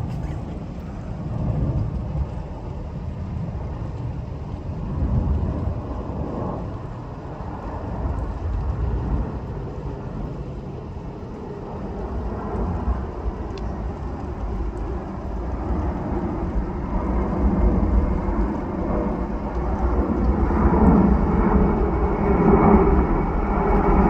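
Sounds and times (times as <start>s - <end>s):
low-flying military aircraft rumble: 0.0s - 24.0s.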